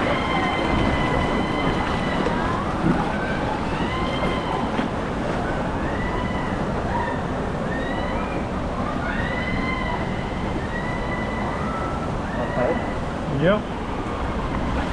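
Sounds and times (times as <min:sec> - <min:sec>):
rushing splashing water: 0:00.0 - 0:14.9
wind buffeting microphone: 0:00.0 - 0:14.9.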